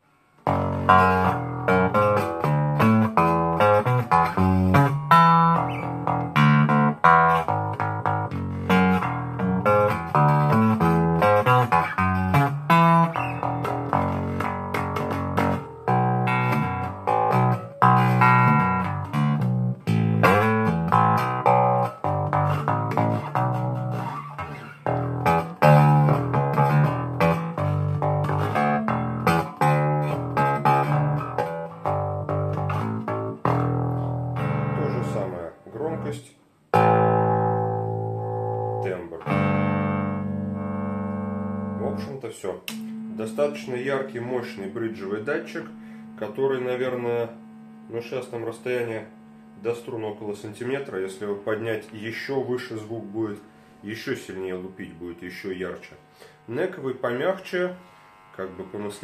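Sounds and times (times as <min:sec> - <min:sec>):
plucked bass guitar notes: 0:00.4 - 0:54.3.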